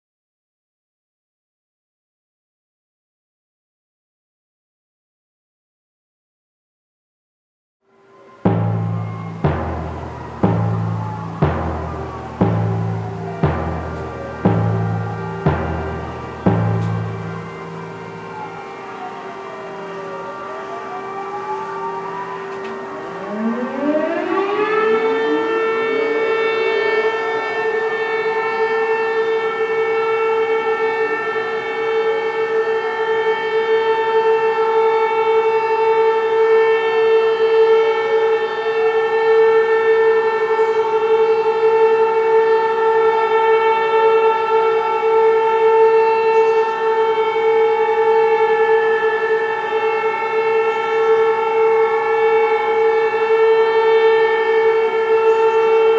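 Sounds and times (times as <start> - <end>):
air-raid siren wailing: 7.8 - 55.9
faint rising and falling siren: 7.9 - 55.9.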